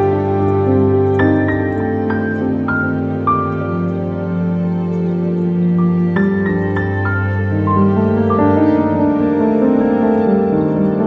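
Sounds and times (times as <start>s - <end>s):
calm slow background music: 0.0s - 11.0s.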